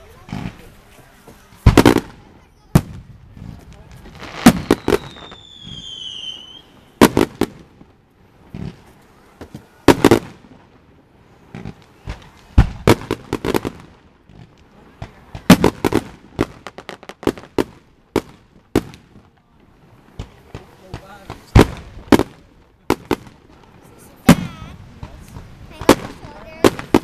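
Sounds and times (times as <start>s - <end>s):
fireworks bangs and crackle: 0.0s - 27.0s.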